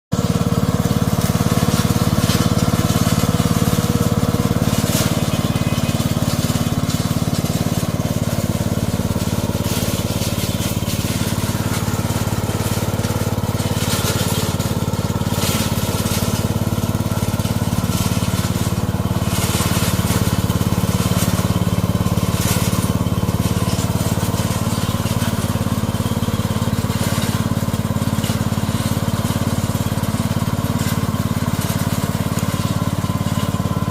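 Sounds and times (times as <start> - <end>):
mower cutting through weeds: 0.1 - 33.9
mowing machine engine running: 0.1 - 33.9.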